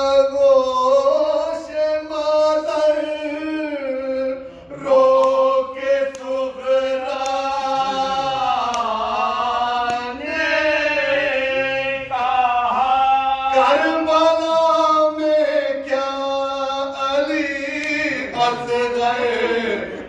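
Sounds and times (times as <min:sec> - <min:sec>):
man chanting into a microphone: 0:00.0 - 0:20.0
men holding long sung notes: 0:00.0 - 0:20.0.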